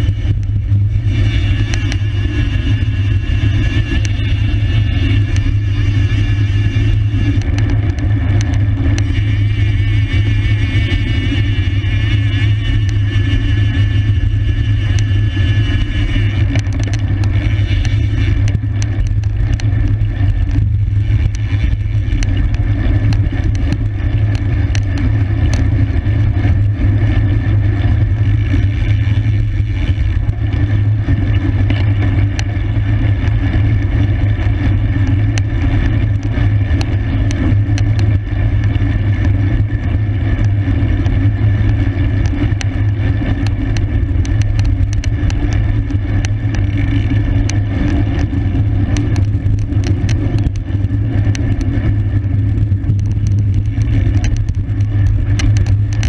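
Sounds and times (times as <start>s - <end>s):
road rumble: 0.0s - 56.0s
small clicks and rattles: 0.0s - 56.0s
wind rush on microphone: 0.0s - 56.0s.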